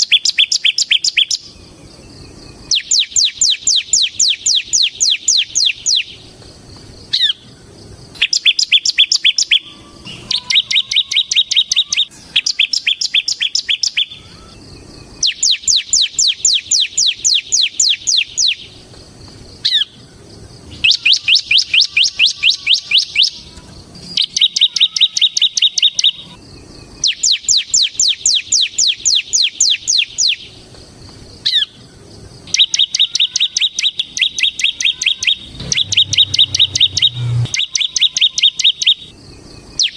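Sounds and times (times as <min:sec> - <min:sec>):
bird singing fast sharp notes: 0:00.0 - 0:01.6, 0:02.4 - 0:06.2, 0:08.2 - 0:18.8, 0:20.7 - 0:26.4, 0:27.0 - 0:30.6, 0:32.5 - 0:39.9.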